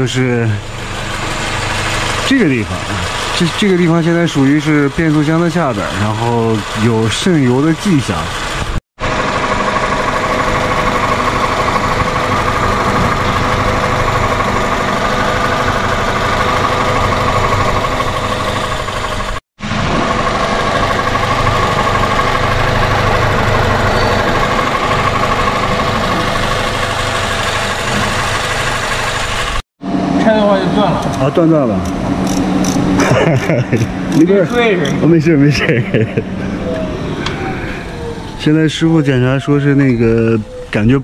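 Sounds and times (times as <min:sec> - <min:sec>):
car engine idling: 0:00.0 - 0:19.4, 0:20.0 - 0:38.8.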